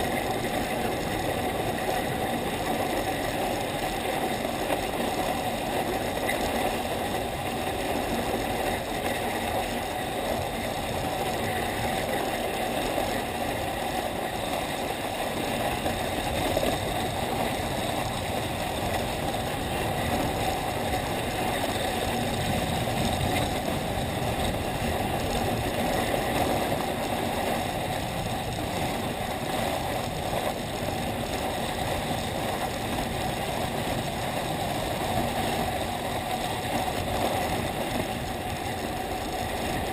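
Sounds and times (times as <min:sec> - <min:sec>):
skis scraping over snow: 0:00.0 - 0:39.9
wind rushing over microphone: 0:00.0 - 0:39.9.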